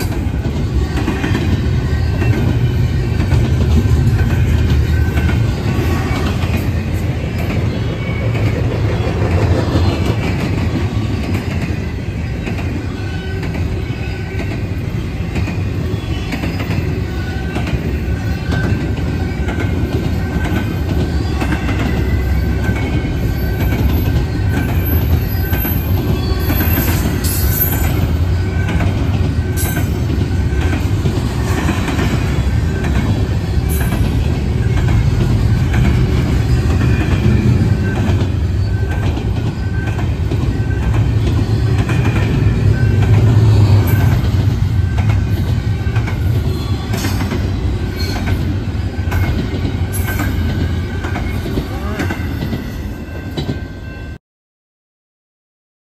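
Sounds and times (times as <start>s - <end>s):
freight train rumbling on rails: 0.0s - 54.2s.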